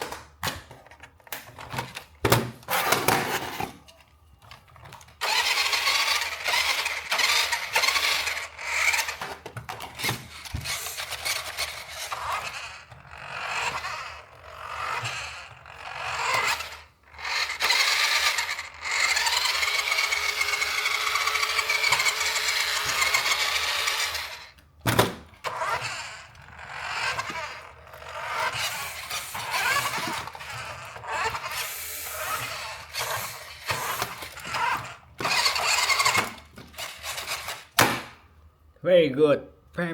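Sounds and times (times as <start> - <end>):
toy car motor whirring: 4.8 - 24.6, 25.4 - 37.8.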